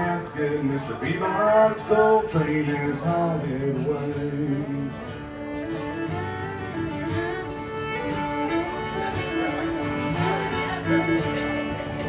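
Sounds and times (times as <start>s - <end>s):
fiddle playing melody: 0.0s - 12.0s
strummed acoustic guitar: 0.0s - 12.0s.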